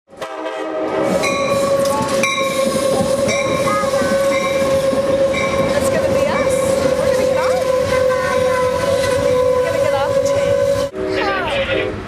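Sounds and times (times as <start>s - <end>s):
passenger train running: 0.1s - 12.0s.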